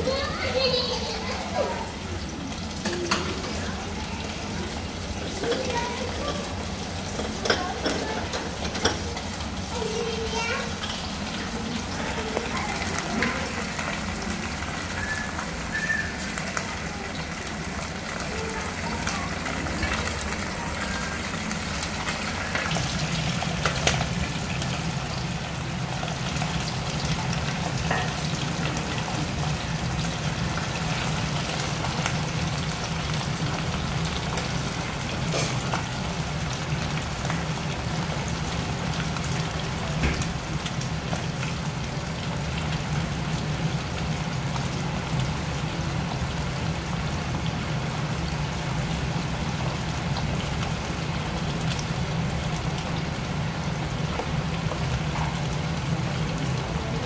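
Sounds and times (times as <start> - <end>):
deep-frying sizzle with pops: 0.0 - 57.0.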